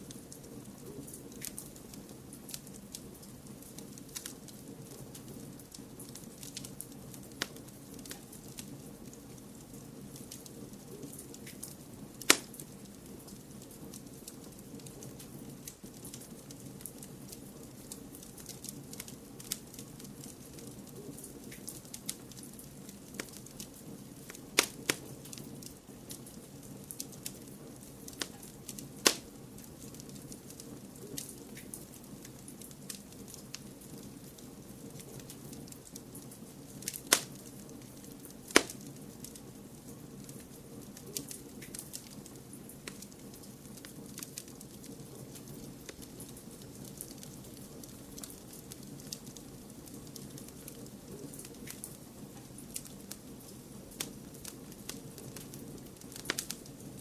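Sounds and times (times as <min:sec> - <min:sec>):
fire crackling and popping: 0:00.0 - 0:57.0
low rush of white noise: 0:00.0 - 0:57.0.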